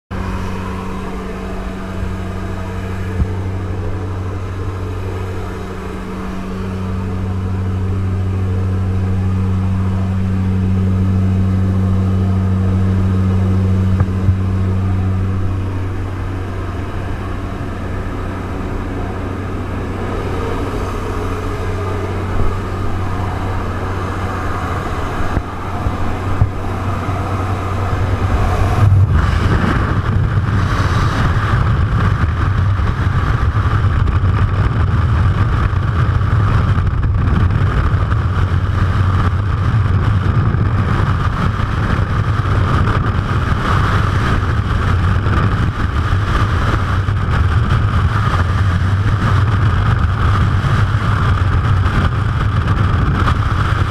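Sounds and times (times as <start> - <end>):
propeller aircraft engines droning: 0.0 - 53.9
rushing wind: 0.1 - 53.9.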